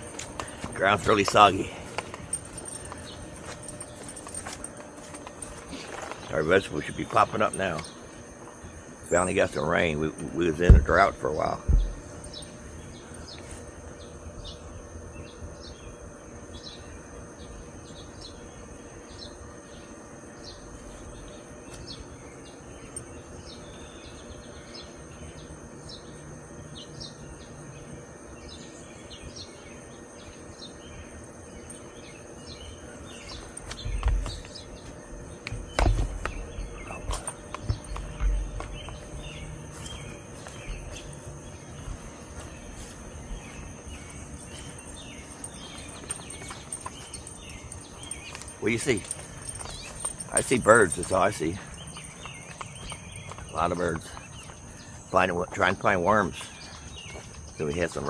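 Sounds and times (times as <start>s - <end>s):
high-pitched insect drone: 0.0s - 58.0s
small birds chirping: 0.0s - 58.0s.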